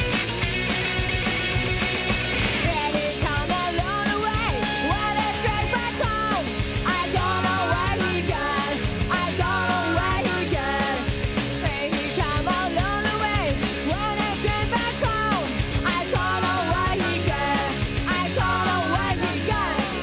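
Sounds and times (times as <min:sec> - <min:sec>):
punk rock band: 0:00.0 - 0:20.0
sung lead vocal: 0:02.5 - 0:20.0.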